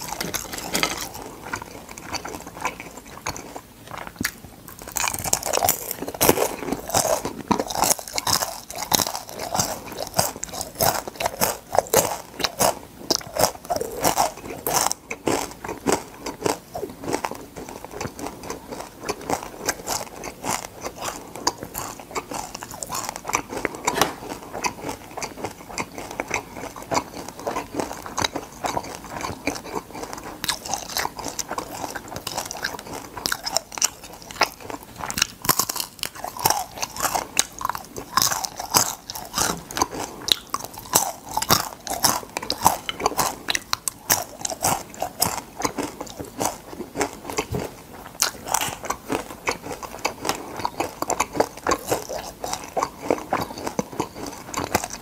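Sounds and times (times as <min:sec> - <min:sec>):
crunching and chewing fried crab: 0:00.0 - 0:55.0.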